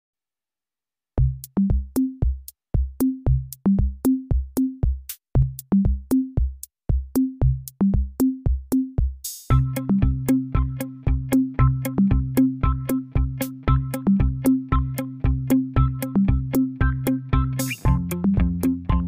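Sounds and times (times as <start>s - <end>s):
electronic drum and bass beat: 1.2s - 19.0s.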